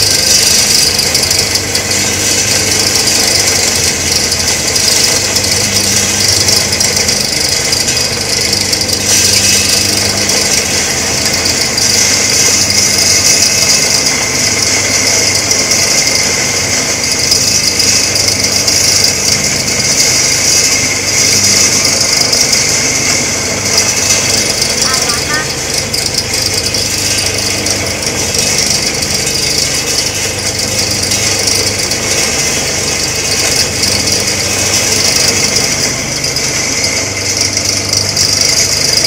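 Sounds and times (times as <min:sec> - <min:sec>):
coffee grinder running: 0:00.0 - 0:39.0.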